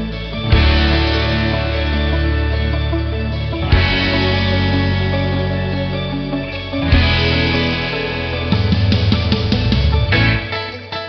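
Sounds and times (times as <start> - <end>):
guitar chord ringing: 0.0 - 11.0.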